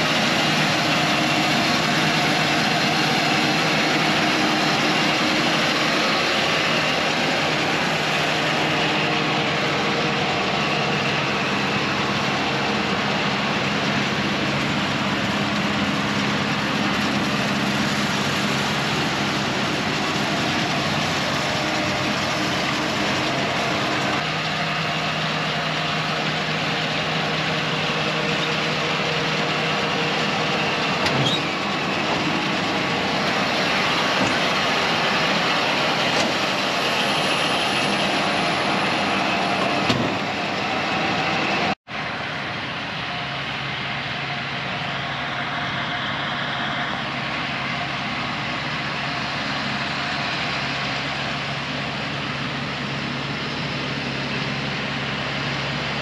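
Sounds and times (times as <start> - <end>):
baler machinery working: 0.0 - 56.0
tractor engine under load: 0.0 - 56.0.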